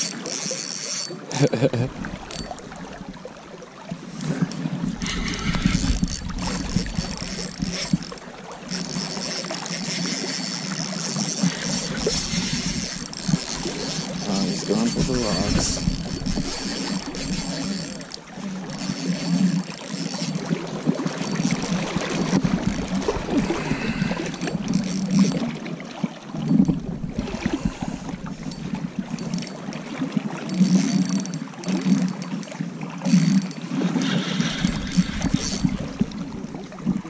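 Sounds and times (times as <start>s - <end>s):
fishing rod handling noise: 0.0s - 3.1s, 4.2s - 25.5s, 26.5s - 37.0s
river water flowing: 0.0s - 37.0s.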